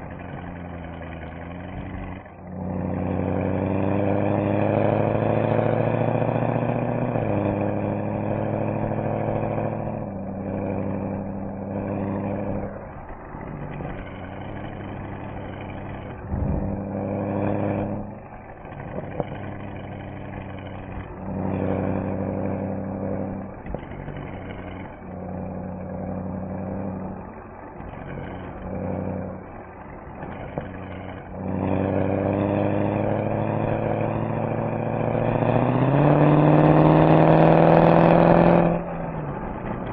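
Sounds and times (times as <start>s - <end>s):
car engine and exhaust revving: 0.0s - 39.9s.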